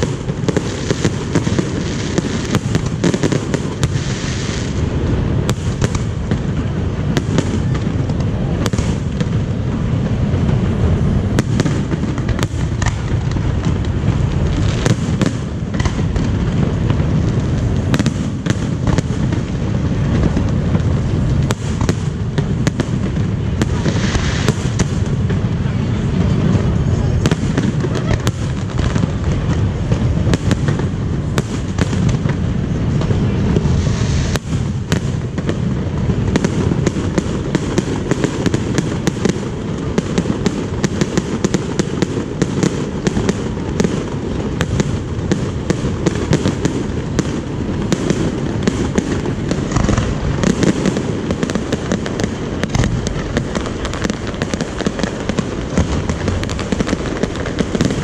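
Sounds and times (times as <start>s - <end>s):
fireworks cracks and pops: 0.0s - 58.0s
rumble of fireworks booms: 0.0s - 58.0s.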